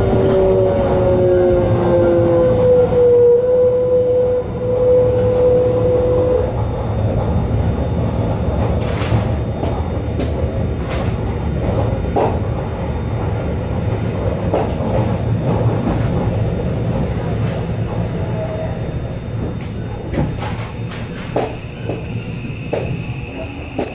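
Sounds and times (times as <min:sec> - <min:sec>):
electric train low rumble: 0:00.0 - 0:23.9.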